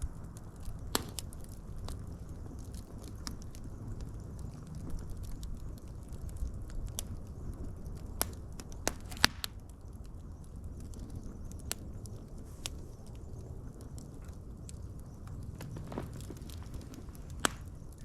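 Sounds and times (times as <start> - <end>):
fire pops and snaps: 0.0 - 18.0
low rumble of burning: 0.0 - 18.0
wood fire crackling: 0.0 - 18.0.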